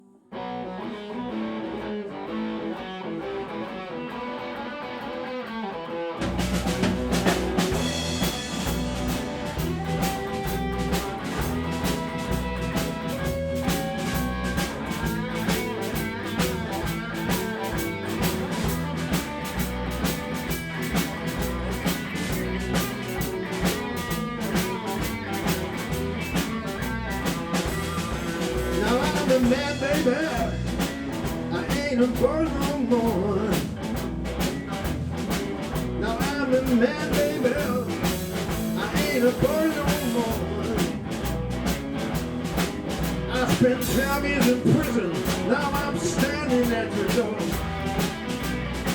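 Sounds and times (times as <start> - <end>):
bass guitar: 0.0 - 48.9
electric guitar: 0.0 - 48.9
drums: 0.4 - 48.9.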